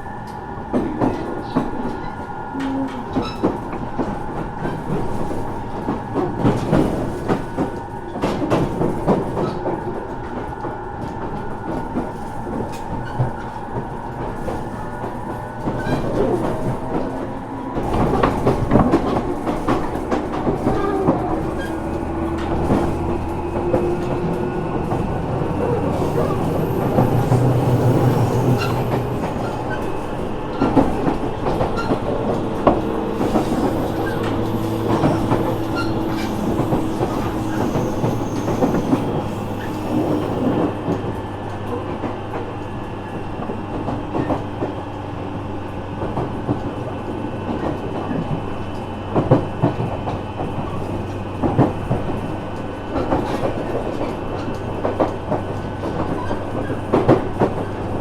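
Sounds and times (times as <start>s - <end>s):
electric train running hum: 0.0s - 58.0s.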